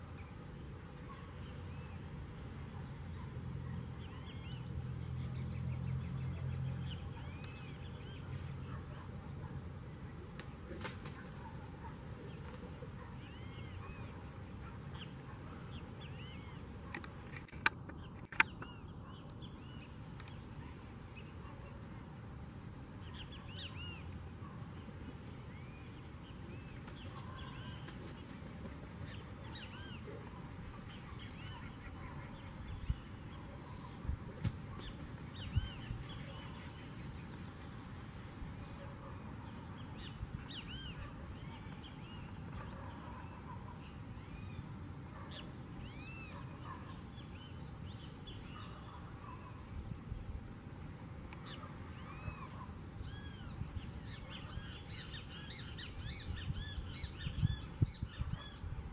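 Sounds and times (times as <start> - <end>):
small birds chirping: 0.0 - 22.1, 23.0 - 49.8.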